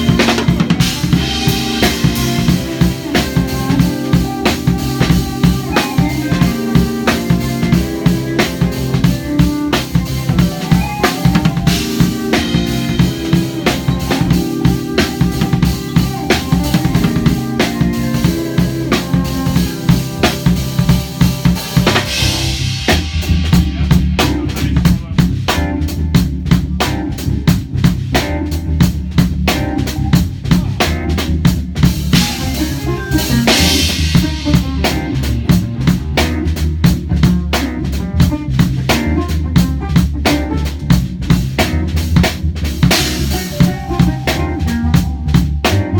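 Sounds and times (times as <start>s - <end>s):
bass: 0.0s - 45.9s
drum kit hip-hop groove: 0.0s - 45.9s.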